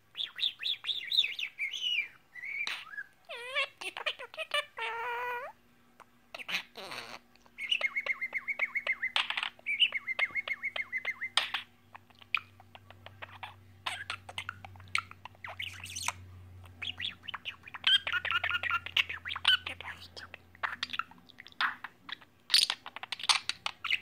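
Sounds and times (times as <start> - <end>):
pet bird chirping and trilling: 0.1 - 24.0.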